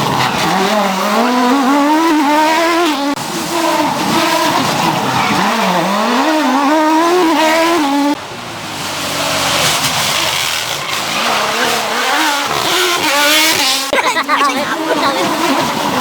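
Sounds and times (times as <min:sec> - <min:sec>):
rally car engine at high revs: 0:00.0 - 0:16.0.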